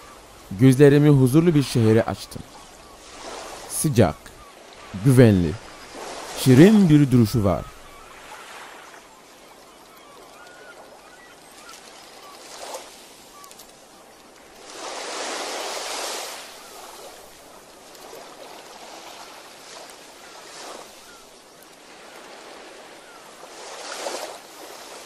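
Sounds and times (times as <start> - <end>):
water lapping: 0.0 - 25.0.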